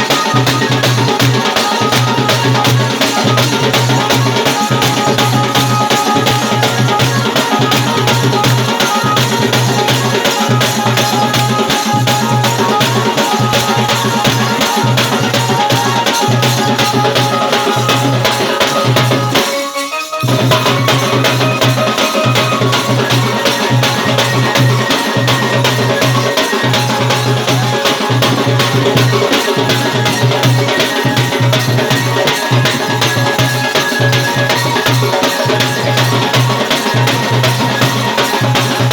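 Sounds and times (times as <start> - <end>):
fast dance drum beat: 0.0 - 38.9.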